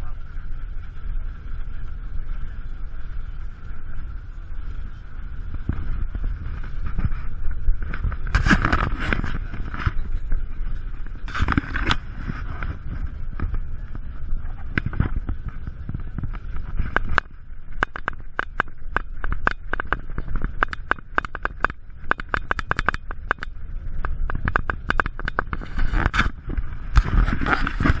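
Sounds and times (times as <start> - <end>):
clothing rubbing microphone: 4.7 - 23.2, 24.0 - 28.0
camera handling rumble: 5.5 - 28.0.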